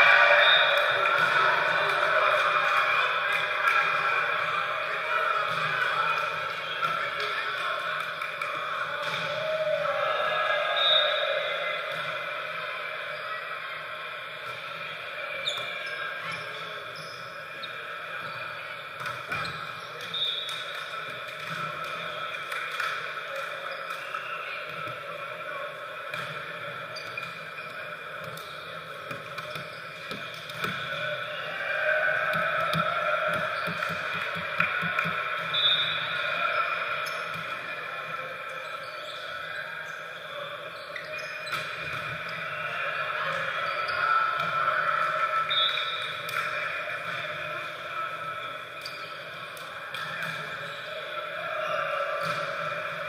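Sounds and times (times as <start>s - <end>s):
echoing gym noise: 0.0s - 53.0s.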